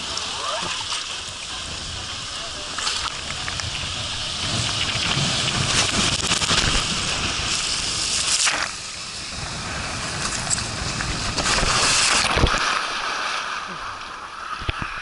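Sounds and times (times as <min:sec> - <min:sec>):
wind noise on microphone: 0:00.0 - 0:13.2
rushing water: 0:00.0 - 0:15.0.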